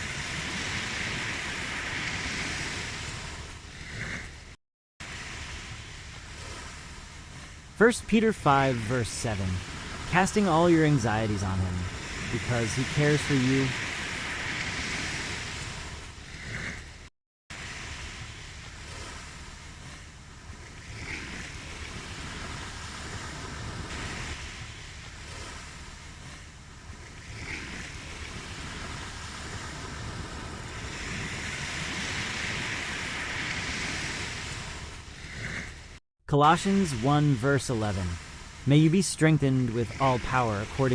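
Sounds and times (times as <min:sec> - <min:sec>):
ocean waves washing in: 0:00.0 - 0:40.9.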